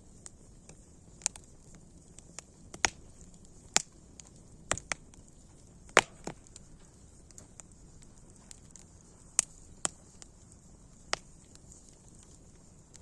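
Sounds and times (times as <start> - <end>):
faint steady hiss: 0.0 - 13.0
wood fire crackling: 0.0 - 13.0.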